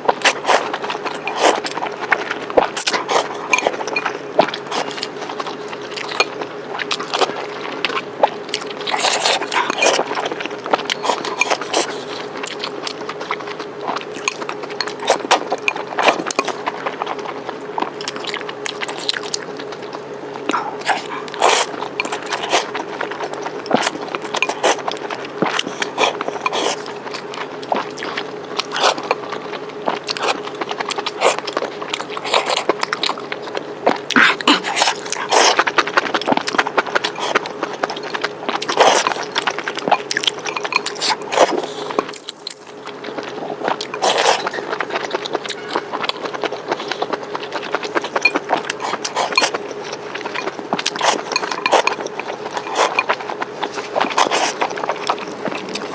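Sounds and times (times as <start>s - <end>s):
chewing and biting food: 0.0s - 55.9s
steady low hum: 0.0s - 55.9s.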